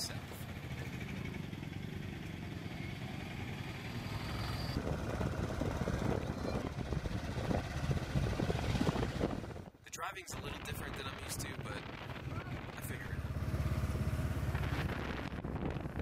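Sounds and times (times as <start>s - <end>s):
motorcycle engine running: 0.0s - 9.7s, 11.3s - 16.0s
wind and road noise: 0.0s - 16.0s.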